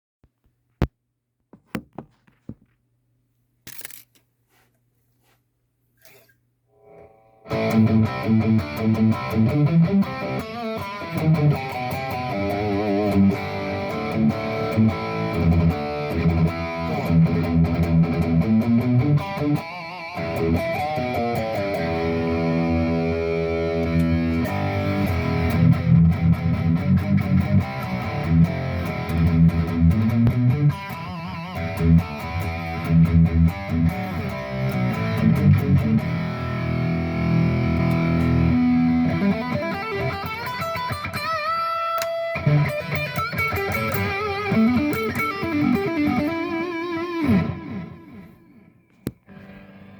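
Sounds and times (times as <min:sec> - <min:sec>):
distorted electric guitar: 0:06.8 - 0:49.9.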